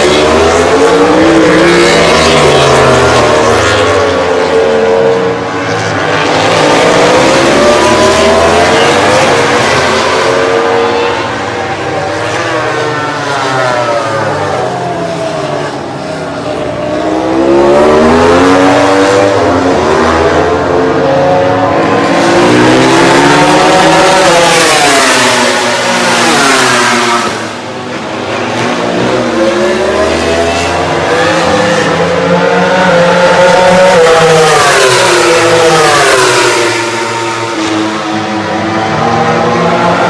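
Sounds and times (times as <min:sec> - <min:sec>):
racing motorcycles passing: 0:00.0 - 0:40.0.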